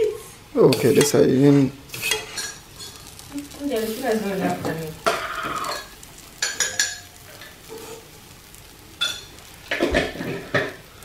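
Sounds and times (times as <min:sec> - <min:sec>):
pancakes frying: 0:00.0 - 0:11.0
utensils scraping frying pan: 0:00.7 - 0:10.9.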